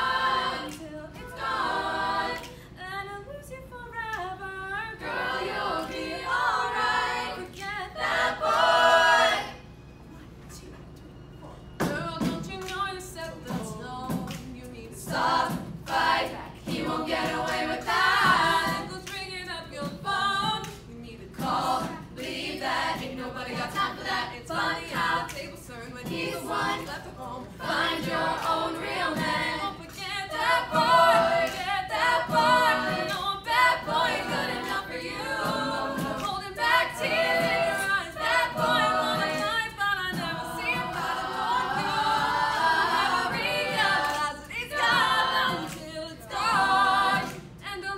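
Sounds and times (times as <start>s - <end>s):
girls singing in harmony: 0.0s - 3.3s, 4.1s - 9.7s, 11.8s - 47.9s.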